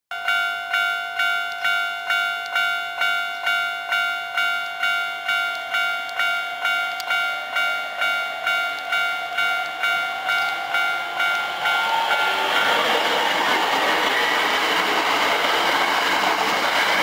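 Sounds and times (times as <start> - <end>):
level crossing warning bell: 0.1 - 17.0.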